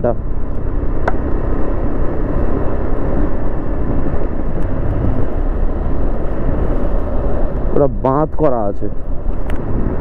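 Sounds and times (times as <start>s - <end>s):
road noise: 0.0s - 10.0s
wind rush over microphone: 0.0s - 10.0s.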